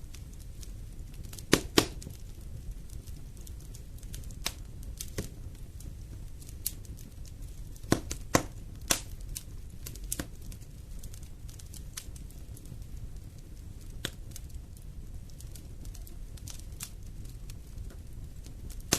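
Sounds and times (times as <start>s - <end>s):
burning logs crackling and popping: 0.0s - 18.9s
fire flames rustling: 0.0s - 18.9s.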